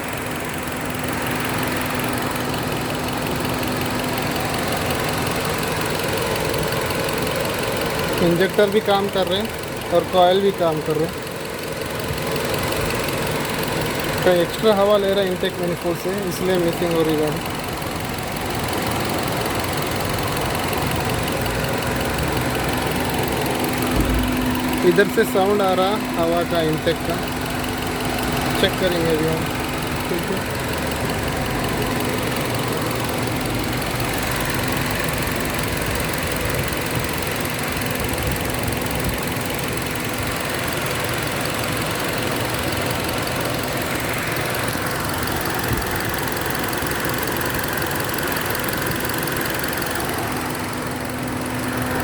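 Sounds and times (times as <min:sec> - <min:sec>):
car engine idling and misfiring: 0:00.0 - 0:52.0.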